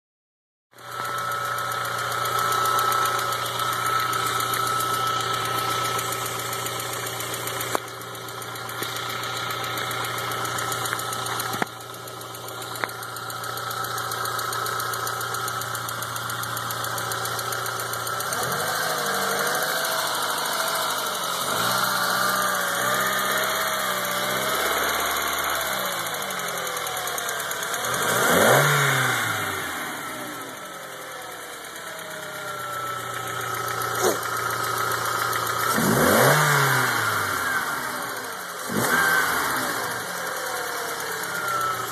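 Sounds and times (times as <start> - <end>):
car engine idling with ticking: 0.8 - 41.9
engine revving: 0.8 - 41.9.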